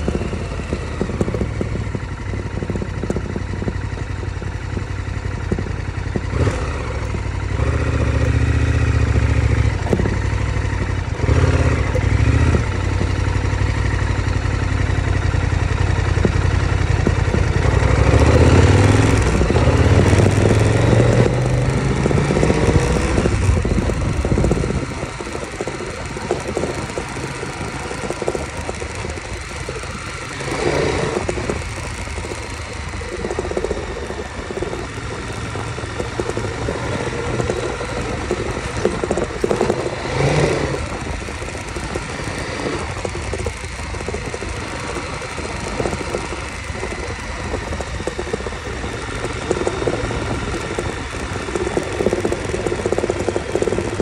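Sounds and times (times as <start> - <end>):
motorcycle engine riding on dirt: 0.0 - 54.0.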